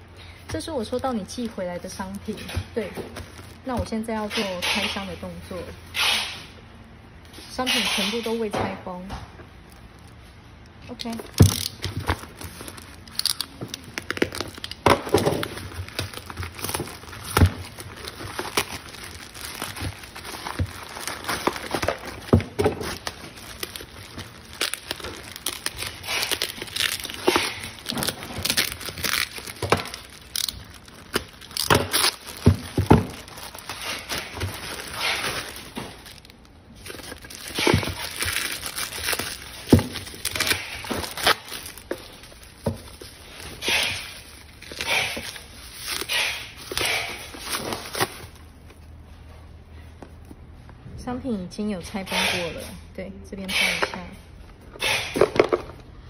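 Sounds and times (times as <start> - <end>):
plastic packaging crinkling: 0.3 - 7.3, 9.4 - 49.0.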